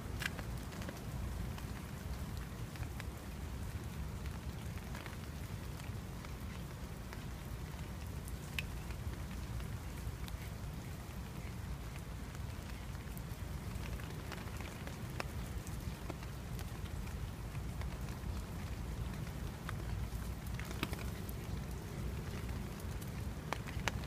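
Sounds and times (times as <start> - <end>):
raindrops ticking: 0.0 - 24.0.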